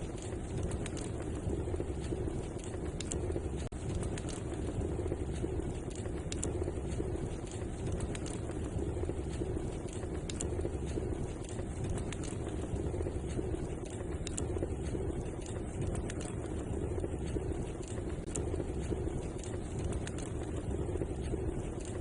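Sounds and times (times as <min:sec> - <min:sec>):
low rushing of fire: 0:00.0 - 0:22.0
wood fire crackling: 0:00.0 - 0:22.0.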